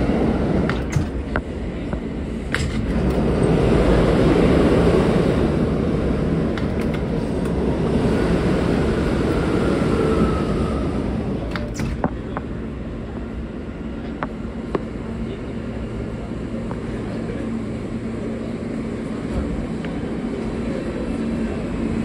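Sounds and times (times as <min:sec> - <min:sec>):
constant hum: 0:00.0 - 0:22.0
train rumbling on track: 0:00.0 - 0:22.0.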